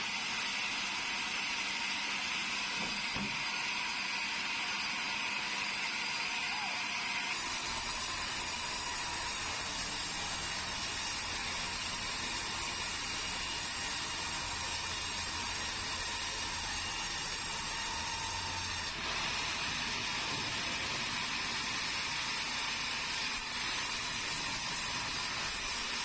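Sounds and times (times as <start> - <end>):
saw cutting timber hissing: 0.0 - 26.0.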